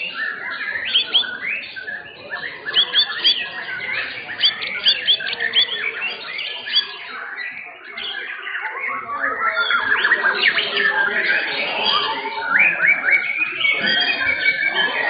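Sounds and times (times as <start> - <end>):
birds singing whistled notes: 0.0 - 15.0.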